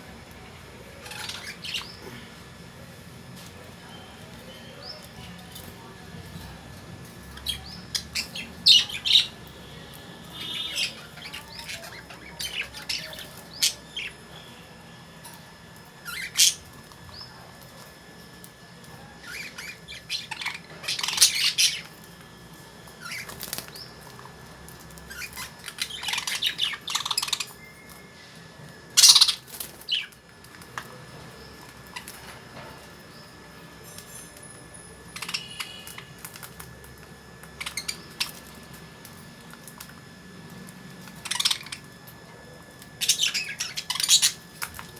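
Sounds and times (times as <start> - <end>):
lovebirds chirping and squawking: 0.3 - 17.6, 18.9 - 44.9.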